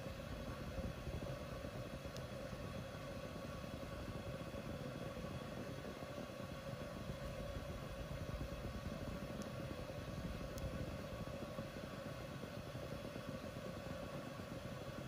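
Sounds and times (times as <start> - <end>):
machine-like room hum and hiss: 0.0 - 15.0.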